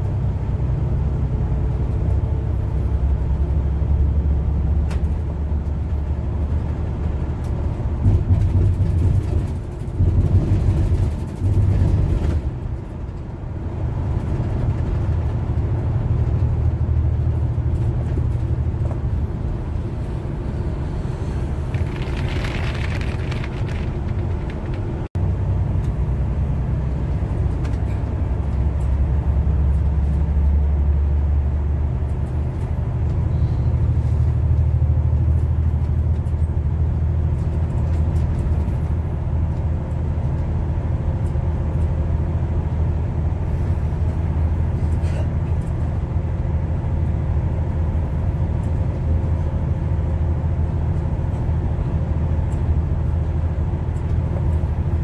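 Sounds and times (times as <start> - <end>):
bus engine rumble: 0.0 - 55.0.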